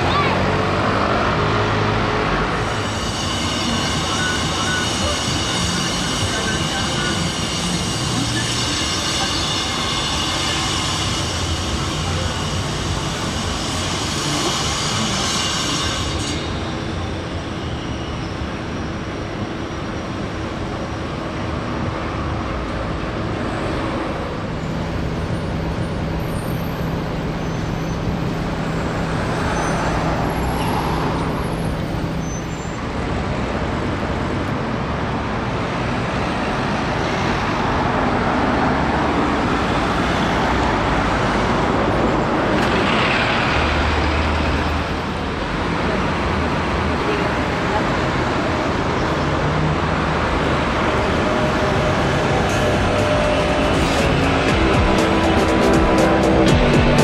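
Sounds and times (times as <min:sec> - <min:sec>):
bus engine hum: 0:00.0 - 0:15.2, 0:16.4 - 0:57.0
street traffic: 0:00.0 - 0:57.0.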